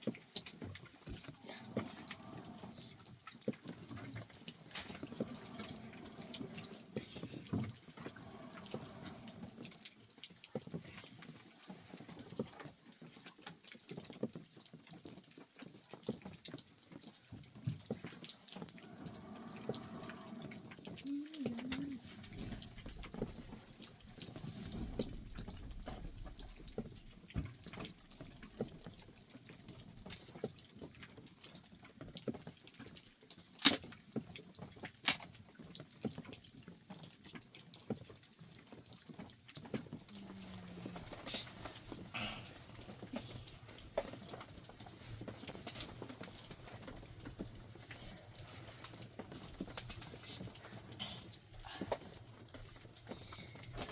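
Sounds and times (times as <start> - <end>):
small clicks and ticks: 0.0 - 53.9
water dripping: 0.0 - 53.9.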